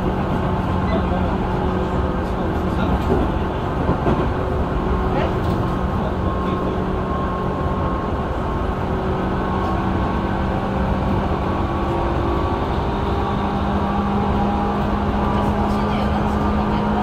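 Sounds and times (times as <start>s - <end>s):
traction motor hum: 0.0s - 17.0s
train wheels rumbling: 0.0s - 17.0s.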